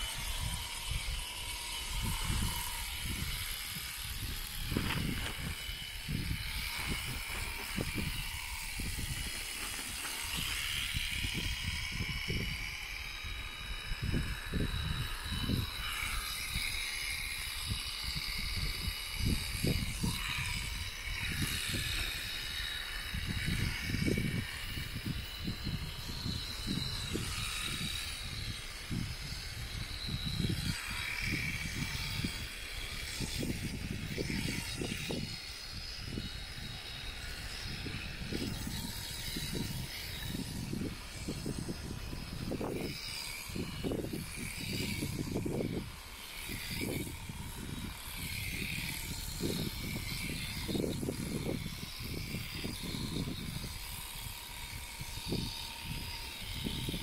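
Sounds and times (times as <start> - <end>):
electric shears clipping fleece: 0.0 - 57.0
wind rumble on microphone: 0.0 - 57.0.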